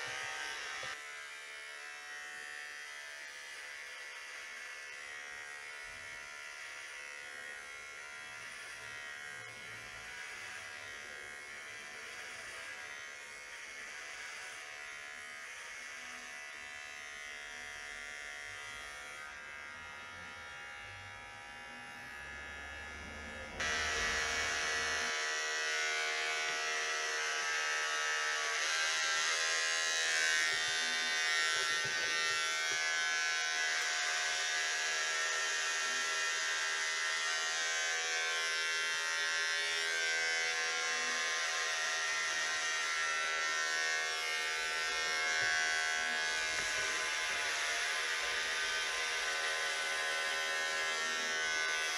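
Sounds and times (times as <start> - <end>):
electric hair clippers buzzing: 0.0 - 51.9.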